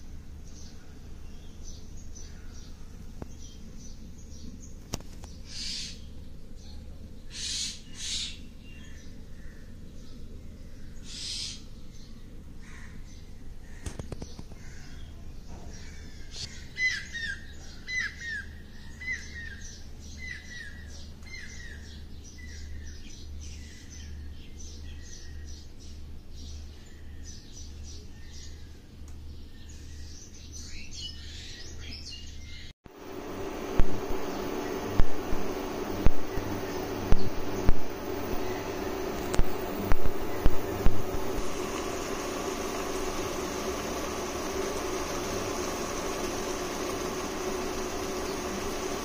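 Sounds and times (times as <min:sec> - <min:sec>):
steady low hum: 0:00.0 - 0:30.4, 0:32.4 - 0:49.0.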